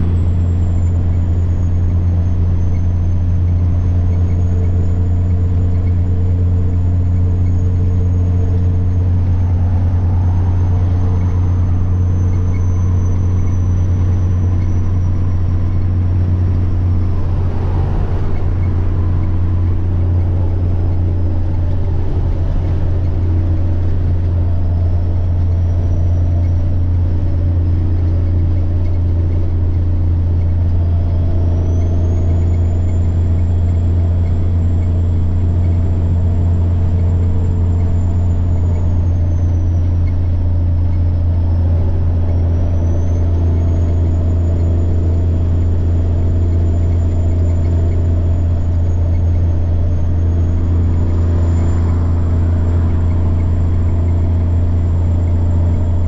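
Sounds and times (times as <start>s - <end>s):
diesel truck engine droning: 0.0s - 56.0s
turbocharger whine: 0.0s - 56.0s.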